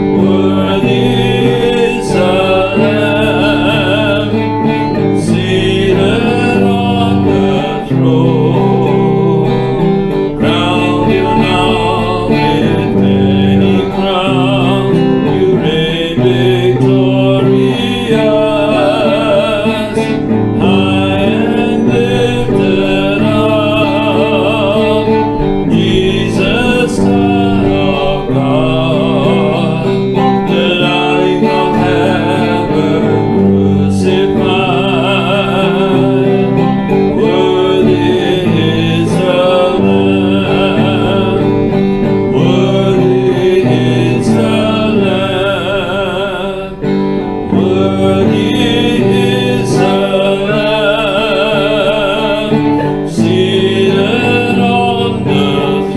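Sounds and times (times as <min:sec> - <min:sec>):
worship band music with guitar: 0:00.0 - 0:55.9.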